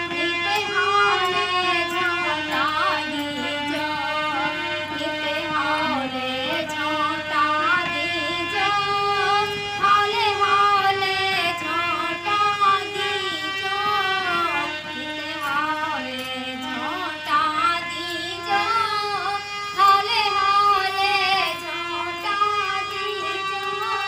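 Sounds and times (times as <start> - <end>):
harmonium chords: 0.0 - 24.0
woman singing devotional song: 0.0 - 24.0.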